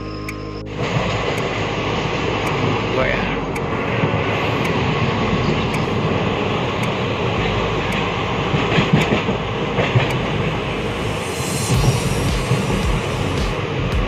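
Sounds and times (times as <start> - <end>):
train wheels rumbling on rails: 0.7 - 14.0.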